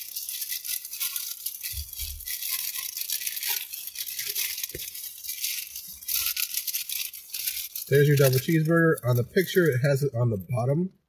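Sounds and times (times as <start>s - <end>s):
paper wrapper crinkling: 0.0s - 10.6s.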